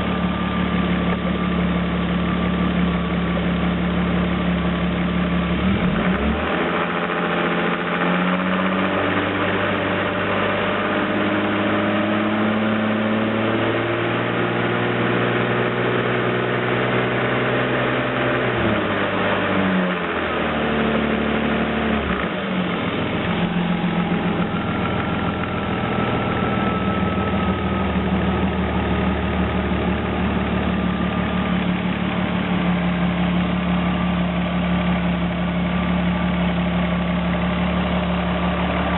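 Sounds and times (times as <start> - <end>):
race car engine revving: 5.4 - 38.9.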